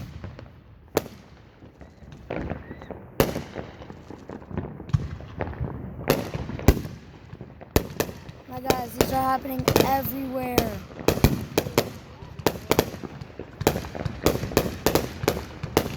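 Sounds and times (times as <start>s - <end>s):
fireworks pops and crackles: 0.0s - 15.9s.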